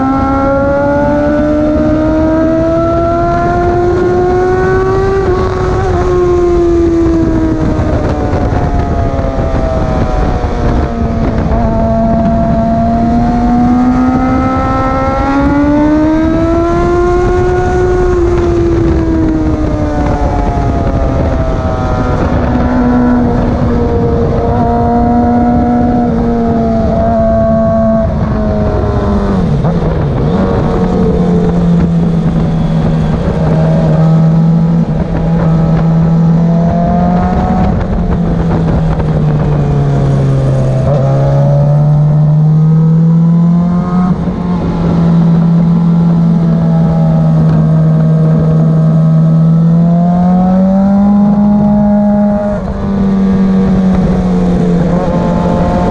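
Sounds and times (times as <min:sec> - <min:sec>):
motorcycle engine at speed: 0:00.0 - 0:55.9
wind rush: 0:00.0 - 0:55.9.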